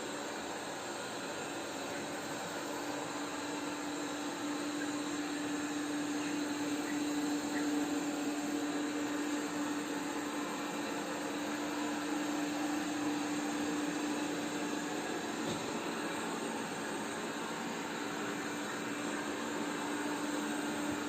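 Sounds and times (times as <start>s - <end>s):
robot vacuum cleaner humming: 0.0s - 21.0s.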